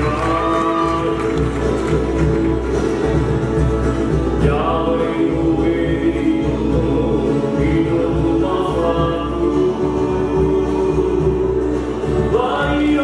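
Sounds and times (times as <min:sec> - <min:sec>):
group singing in harmony: 0:00.0 - 0:13.0.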